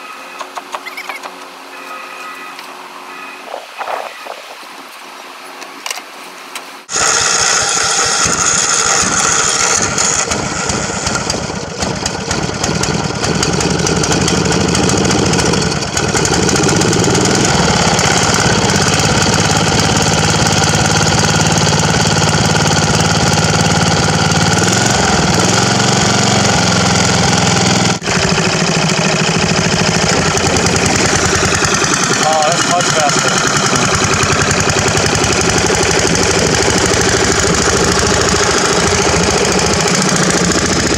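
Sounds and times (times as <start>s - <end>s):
lawnmower engine running: 6.8s - 40.9s.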